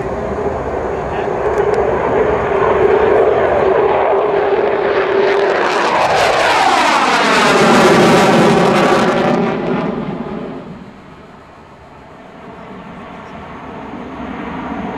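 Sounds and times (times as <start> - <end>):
jet engines passing overhead: 0.0 - 14.9.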